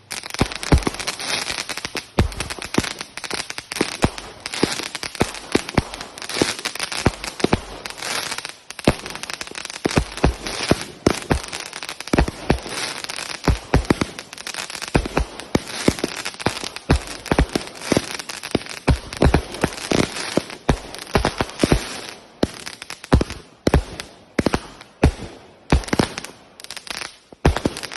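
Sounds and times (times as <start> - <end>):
fireworks shots and bangs: 0.0 - 26.4, 27.3 - 27.9
fireworks crackling hiss: 0.0 - 27.9.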